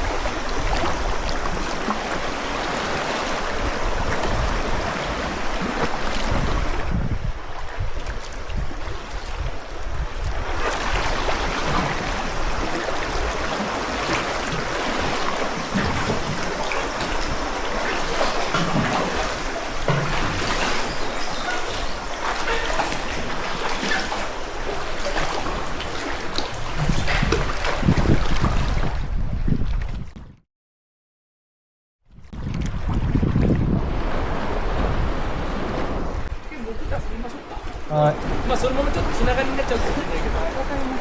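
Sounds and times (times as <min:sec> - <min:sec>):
sea water splashing: 0:00.0 - 0:30.2, 0:32.2 - 0:41.0.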